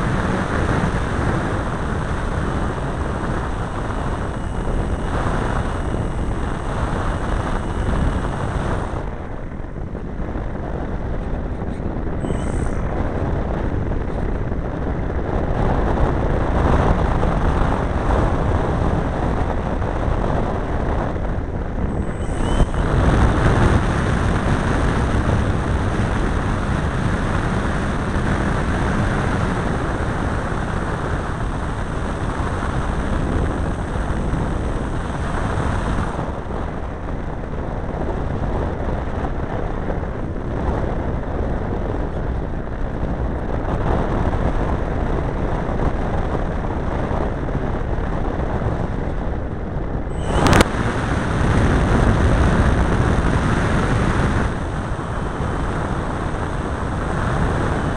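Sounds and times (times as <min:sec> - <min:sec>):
model airplane engine running: 0:00.0 - 0:47.3, 0:47.9 - 0:57.9
wind rush on microphone: 0:00.0 - 0:57.9.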